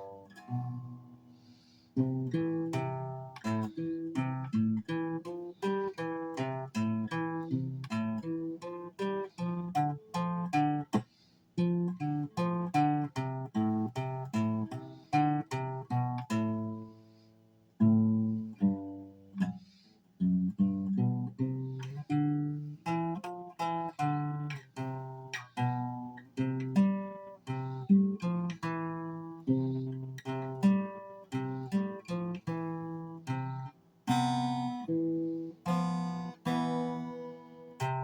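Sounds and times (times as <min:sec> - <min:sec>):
acoustic guitar picking and strumming: 0:00.0 - 0:38.0.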